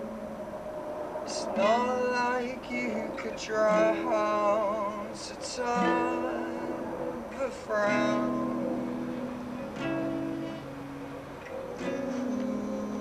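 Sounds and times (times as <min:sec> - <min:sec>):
acoustic guitar: 0:00.0 - 0:13.0
man singing with vibrato: 0:01.3 - 0:11.0, 0:11.8 - 0:13.0.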